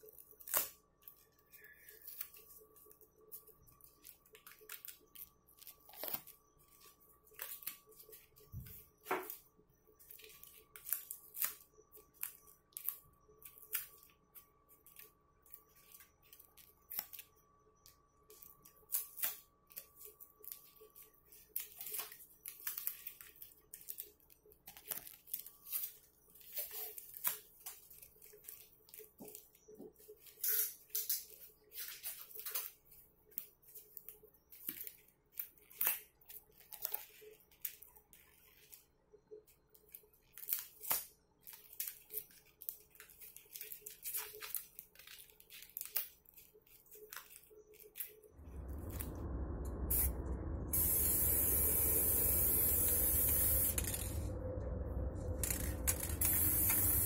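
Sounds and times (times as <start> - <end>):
masking tape crinkling and tearing: 0.0 - 38.9, 39.5 - 49.2, 49.8 - 57.0.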